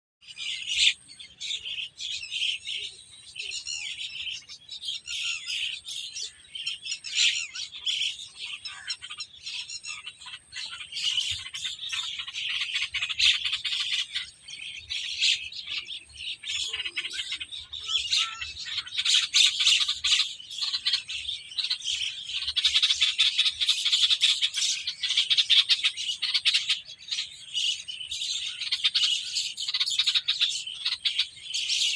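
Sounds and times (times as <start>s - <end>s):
flock of birds chirping: 0.2s - 31.9s.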